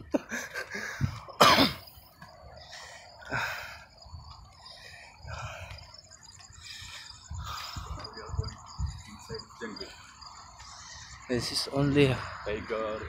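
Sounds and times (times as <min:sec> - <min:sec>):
high fast pulsing chirping: 0:01.9 - 0:13.0.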